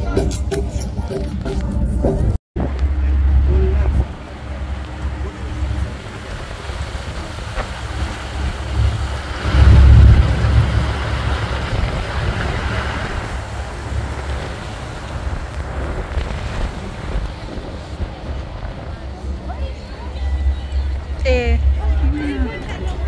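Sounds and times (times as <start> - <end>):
low rumble of boat: 0.0 - 23.0
wind buffeting microphone: 1.0 - 23.0.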